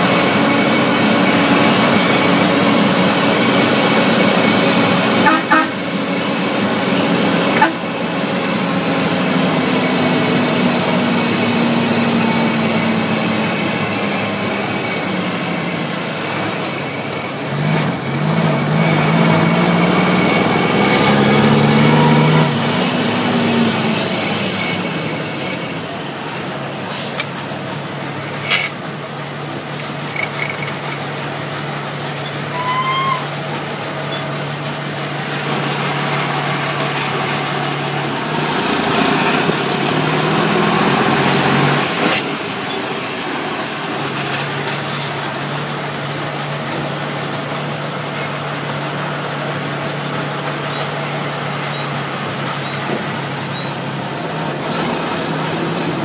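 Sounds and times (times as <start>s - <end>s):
truck diesel engine: 0.0s - 56.0s.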